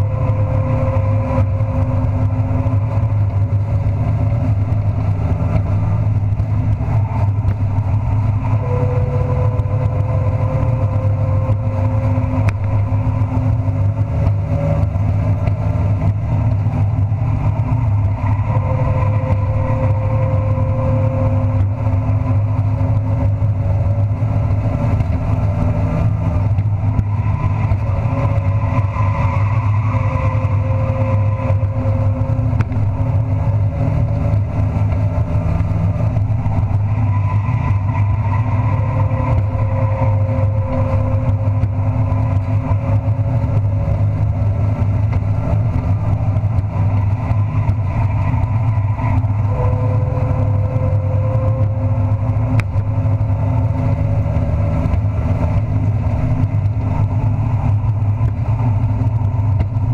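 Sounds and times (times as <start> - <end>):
race truck engine revving: 0.0 - 59.9.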